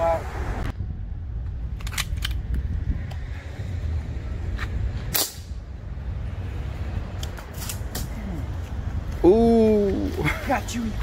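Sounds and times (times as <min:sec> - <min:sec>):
low rumble of passing traffic: 0:00.0 - 0:11.0.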